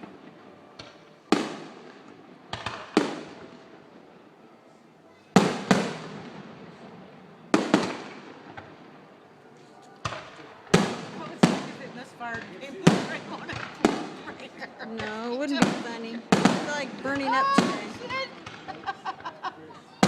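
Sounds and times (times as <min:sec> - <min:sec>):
fireworks bangs with rolling echo: 0:00.0 - 0:04.4, 0:05.3 - 0:19.4.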